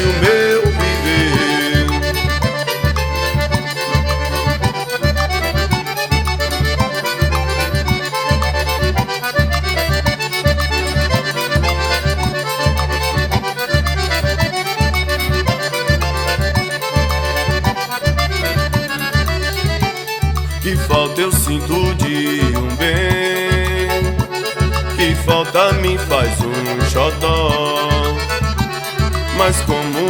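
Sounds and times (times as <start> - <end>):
accordion melody: 0.0 - 30.0
steady bass beat: 0.0 - 30.0.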